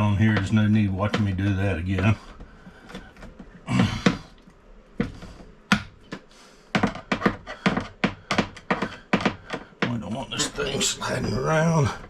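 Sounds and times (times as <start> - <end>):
clicks and knocks of hand work: 0.0 - 10.0.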